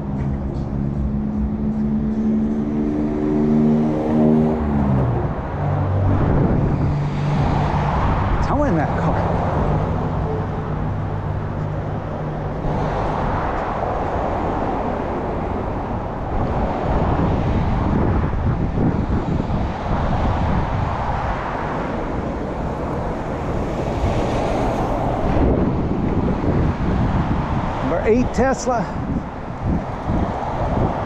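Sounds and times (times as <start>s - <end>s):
cars and tyres passing: 0.0s - 31.0s
low engine hum: 0.0s - 31.0s.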